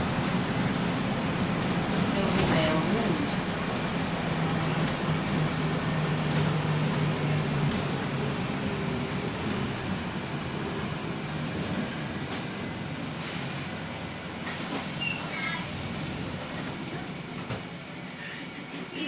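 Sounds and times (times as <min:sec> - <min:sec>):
road noise: 0:00.0 - 0:18.5
bus engine hum: 0:00.0 - 0:19.0.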